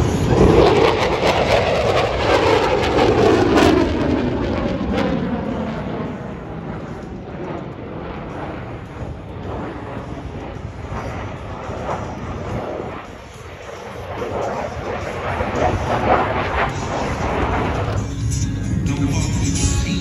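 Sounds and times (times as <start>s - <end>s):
jet roar passing overhead: 0.0s - 20.0s.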